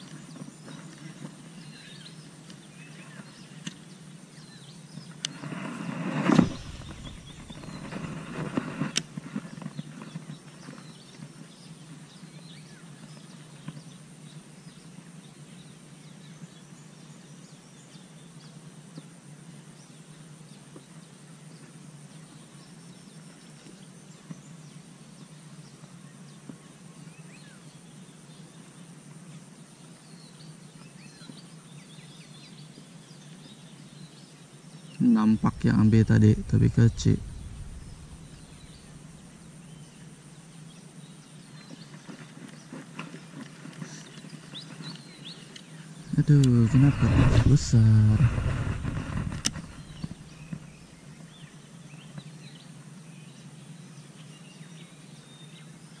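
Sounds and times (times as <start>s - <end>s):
faint high hiss: 0.0s - 10.4s, 11.7s - 56.0s.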